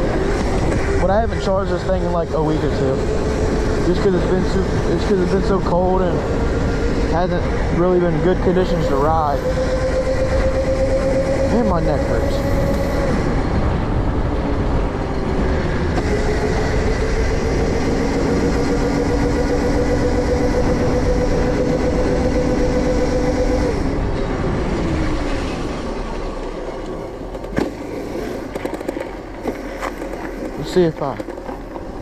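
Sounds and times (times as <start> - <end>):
electric motor whine: 0.0 - 27.1
rumble of riding: 0.0 - 32.0.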